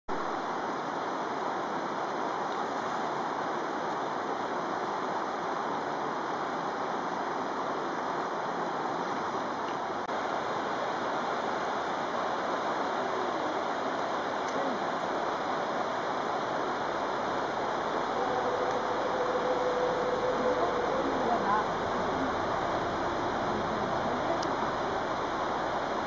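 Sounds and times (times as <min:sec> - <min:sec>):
river rushing over rocks: 0:00.2 - 0:26.0.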